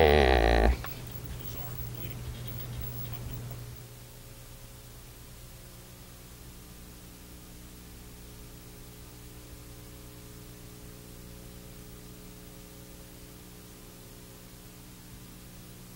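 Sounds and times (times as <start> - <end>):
low electrical hum: 0.0 - 15.9.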